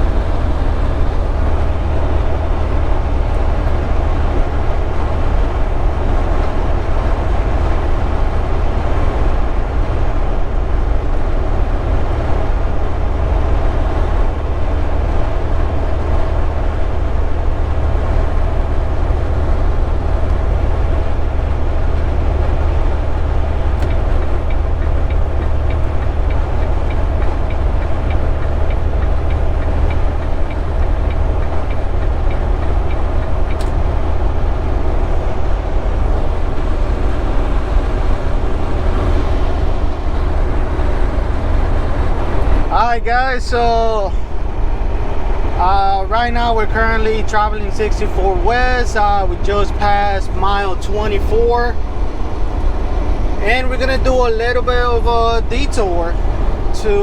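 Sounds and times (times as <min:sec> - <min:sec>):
road noise inside cab: 0:00.0 - 0:57.0
truck diesel engine rumble: 0:00.0 - 0:57.0.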